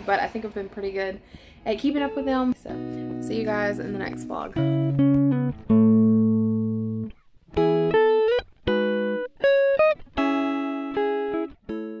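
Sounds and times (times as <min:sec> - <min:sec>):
plucked guitar chords and notes: 0:02.0 - 0:12.0.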